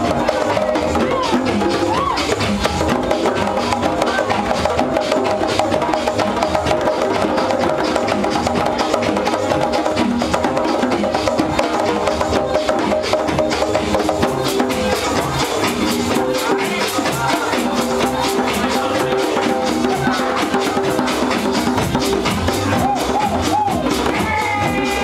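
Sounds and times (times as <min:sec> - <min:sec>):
drummers playing fast pattern: 0:00.0 - 0:25.0
loud dance music: 0:00.0 - 0:25.0.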